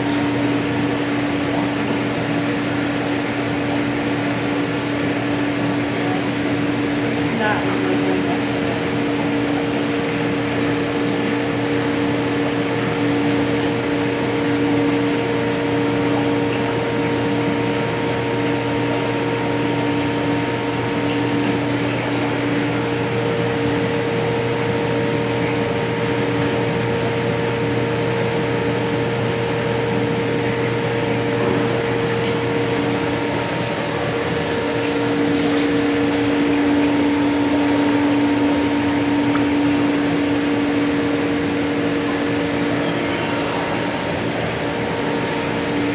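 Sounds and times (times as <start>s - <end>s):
machinery humming: 0.0s - 45.9s.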